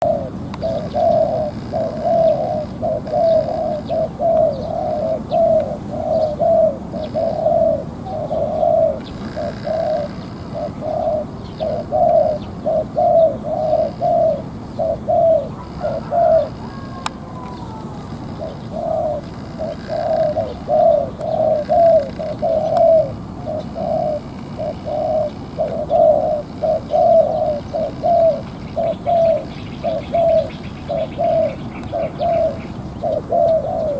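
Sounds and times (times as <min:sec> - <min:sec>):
dove cooing: 0:00.0 - 0:33.9
small birds chirping: 0:00.0 - 0:33.9.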